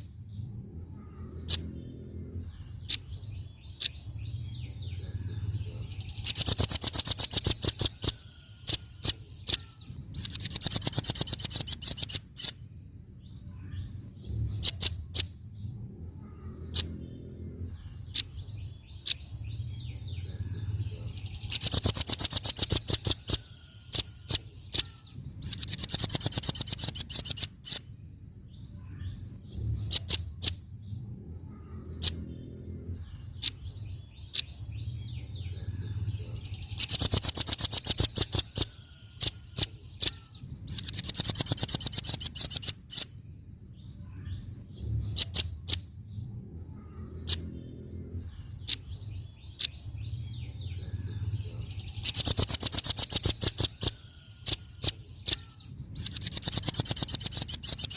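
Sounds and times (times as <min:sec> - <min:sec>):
nuthatch trilling calls: 0:01.0 - 0:15.4, 0:16.3 - 0:28.1, 0:28.8 - 0:30.7, 0:31.6 - 0:43.3, 0:44.0 - 0:46.0, 0:46.7 - 0:57.9.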